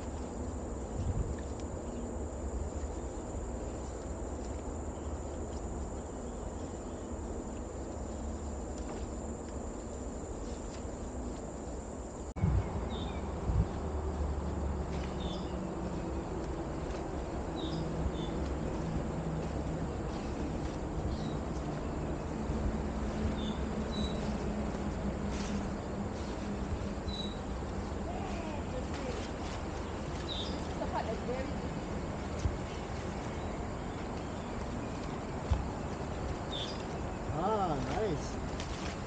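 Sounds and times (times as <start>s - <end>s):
high insect whine: 0.0s - 39.0s.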